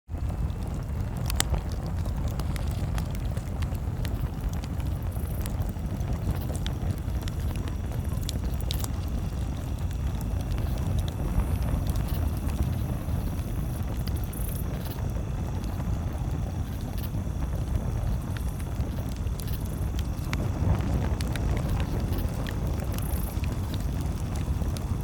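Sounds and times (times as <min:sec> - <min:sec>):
campfire crackling and popping: 0:00.1 - 0:25.0
low rumble: 0:00.1 - 0:25.0.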